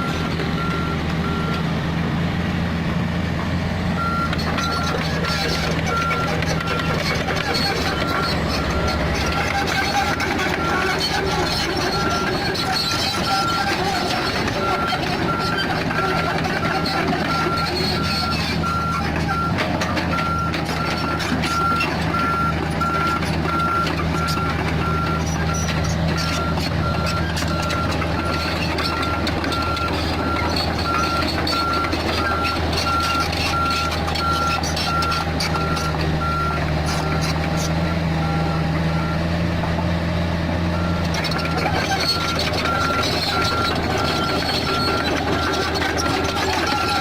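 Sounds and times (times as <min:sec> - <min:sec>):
reversing alarm beeping: 0:00.0 - 0:01.6, 0:04.0 - 0:39.4, 0:40.7 - 0:47.0
excavator diesel engine running: 0:00.0 - 0:47.0.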